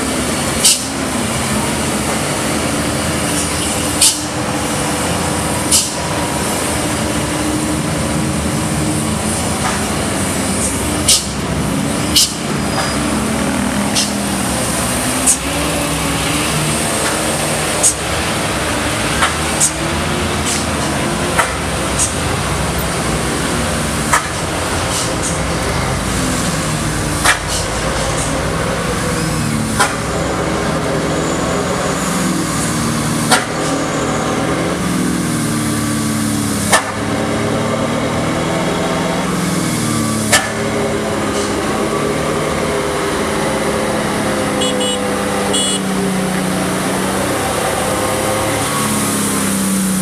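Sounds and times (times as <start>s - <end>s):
car engines climbing: 0.0s - 50.0s
truck engine: 0.0s - 50.0s.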